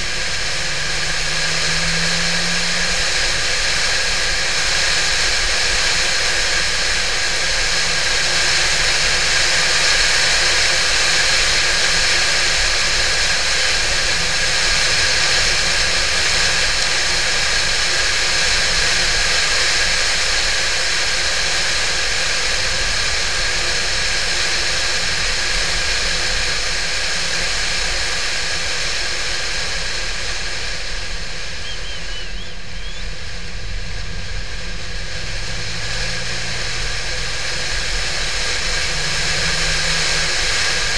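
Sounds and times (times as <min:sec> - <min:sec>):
car engine hum: 0:00.0 - 0:40.9
wind and road noise: 0:00.0 - 0:40.9.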